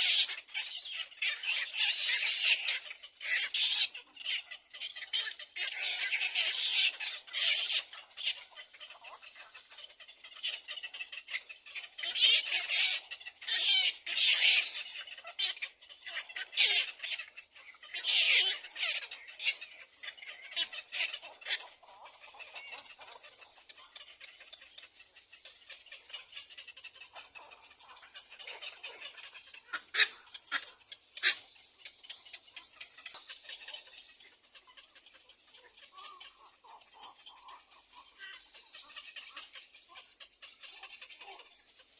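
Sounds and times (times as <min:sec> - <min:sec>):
nestling birds begging calls: 0:00.0 - 0:41.9.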